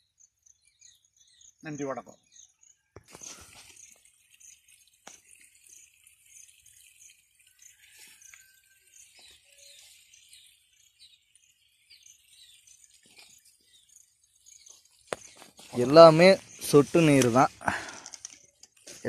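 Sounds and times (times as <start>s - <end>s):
faint high chirps: 0.0s - 17.2s.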